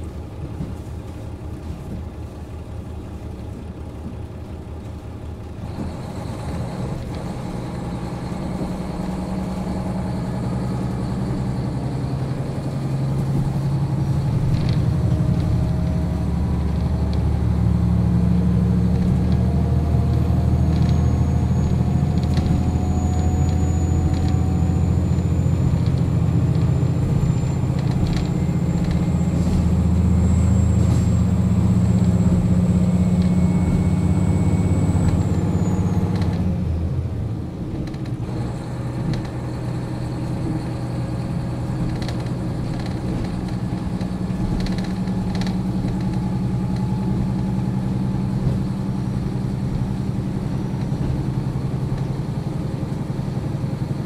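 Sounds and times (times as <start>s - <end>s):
diesel railcar engine humming: 0.0s - 54.0s.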